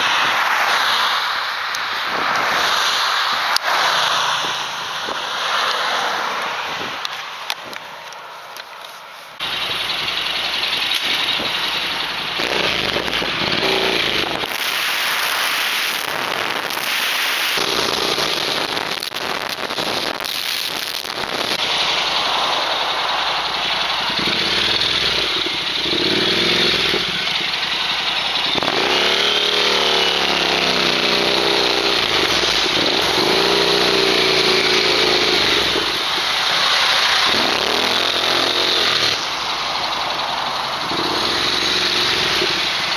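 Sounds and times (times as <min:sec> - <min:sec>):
vehicle engine: 0:00.0 - 0:42.9.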